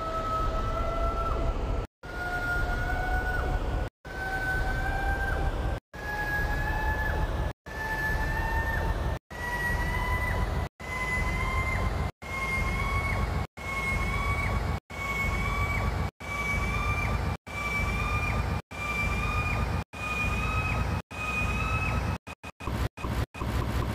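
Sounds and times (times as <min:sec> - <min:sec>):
low rumble: 0:00.0 - 0:23.9.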